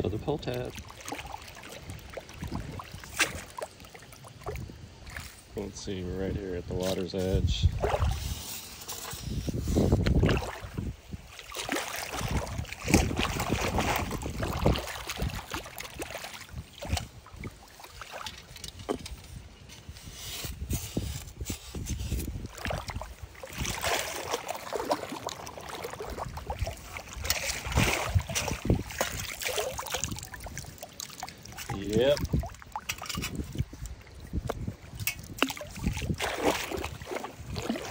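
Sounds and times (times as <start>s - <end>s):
water sloshing and splashing: 0.0s - 37.9s
wind gusts on microphone: 1.8s - 3.5s, 4.4s - 17.7s, 18.7s - 30.8s, 31.6s - 37.9s.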